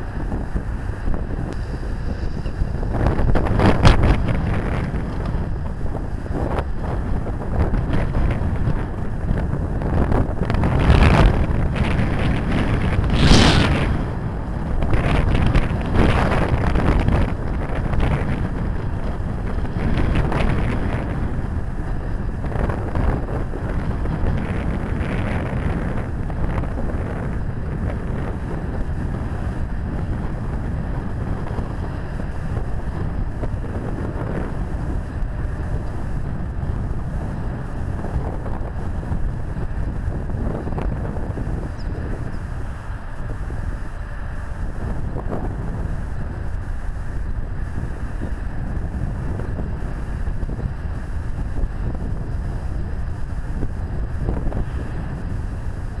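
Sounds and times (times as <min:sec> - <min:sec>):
wind blowing across microphone: 0:00.0 - 0:56.0.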